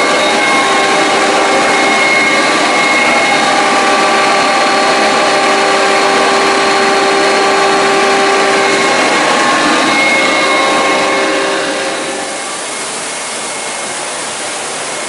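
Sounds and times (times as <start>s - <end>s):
whining tones: 0.0s - 14.7s
hydraulic machine rushing noise: 0.0s - 15.0s.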